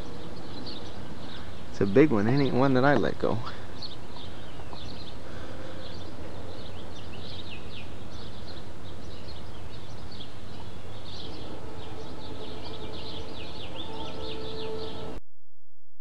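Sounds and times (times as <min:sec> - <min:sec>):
small birds chirping: 0:00.0 - 0:15.2
steady low hum: 0:00.0 - 0:15.2.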